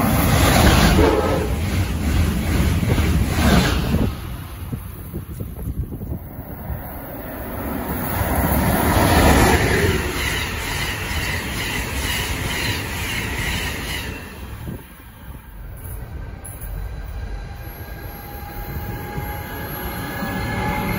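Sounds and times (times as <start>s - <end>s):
electric locomotive rushing past: 0.0s - 20.9s.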